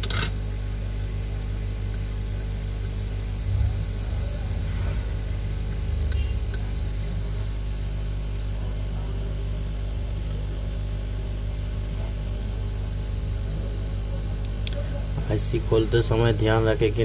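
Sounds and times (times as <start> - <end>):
hot air station humming: 0.0 - 17.0.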